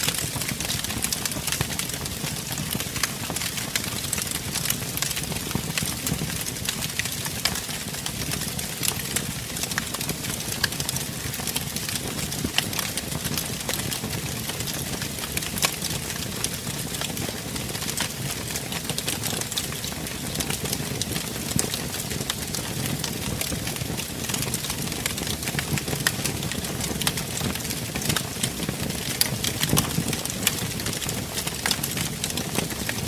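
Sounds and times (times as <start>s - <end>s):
flames rumbling and hissing: 0.0s - 33.0s
wood fire crackling and popping: 0.0s - 33.0s.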